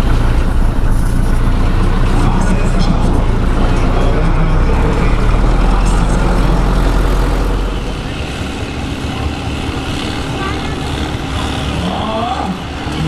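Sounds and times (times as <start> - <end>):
tractor engine rumbling under load: 0.0 - 13.0.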